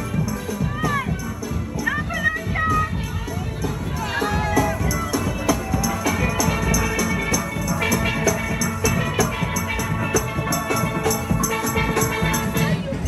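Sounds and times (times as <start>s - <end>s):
drums steady beat: 0.0s - 13.0s
steel pans playing melody: 0.0s - 13.0s.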